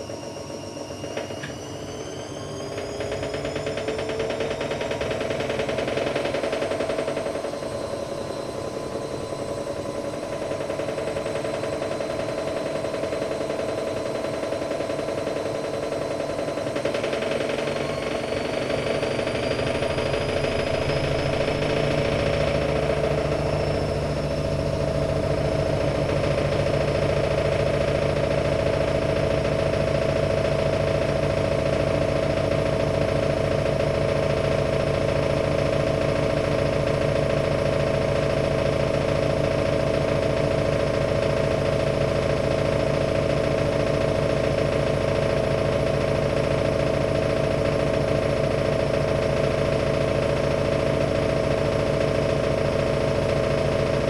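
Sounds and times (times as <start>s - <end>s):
washing machine spin motor whine: 0.0s - 54.0s.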